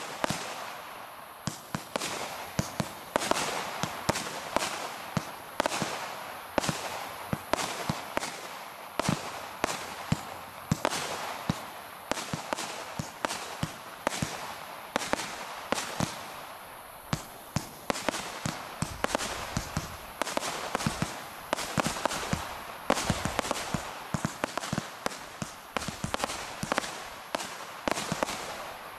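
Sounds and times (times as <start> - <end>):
firework shots: 0.0 - 28.9.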